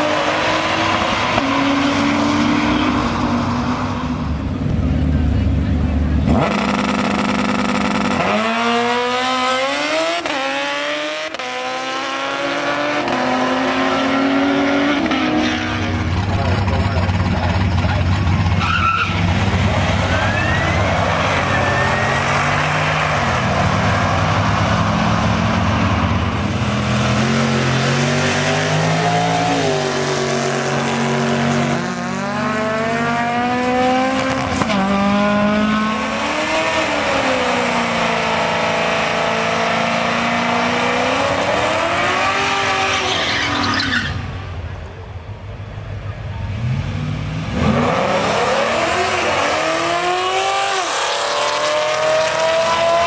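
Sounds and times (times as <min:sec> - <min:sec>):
race car engines revving: 0:00.0 - 0:53.0.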